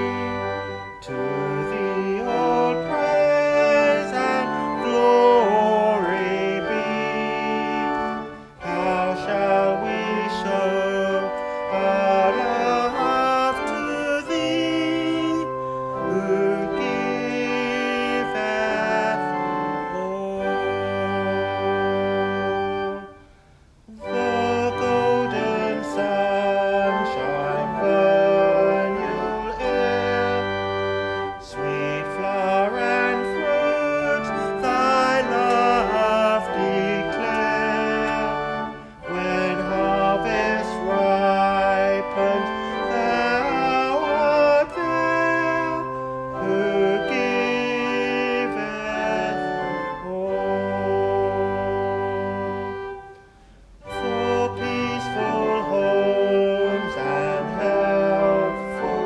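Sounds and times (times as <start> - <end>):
organ playing hymn chords: 0.0 - 59.0.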